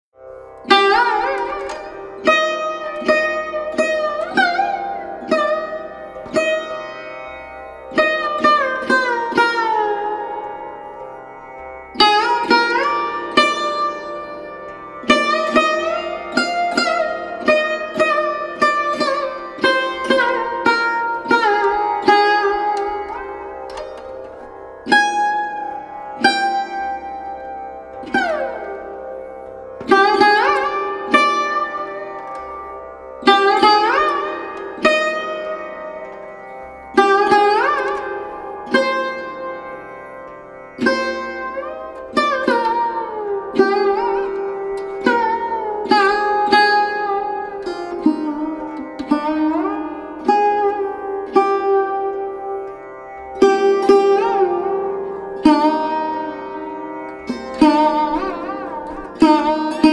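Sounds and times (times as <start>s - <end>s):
plucked string instrument notes: 0.2s - 59.9s.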